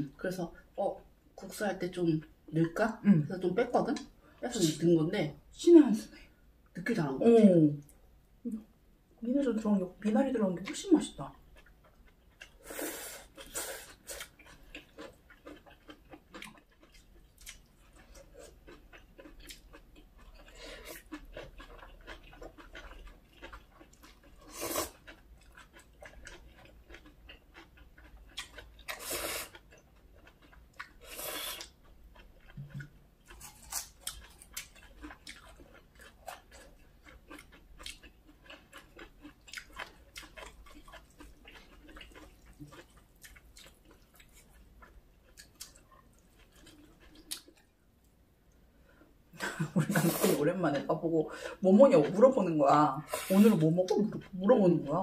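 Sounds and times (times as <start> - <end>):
people chewing food: 10.0 - 55.0.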